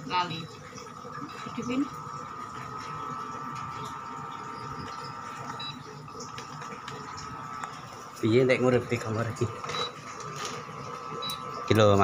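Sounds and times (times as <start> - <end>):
cooktop high-pitched whine: 0.0 - 12.0.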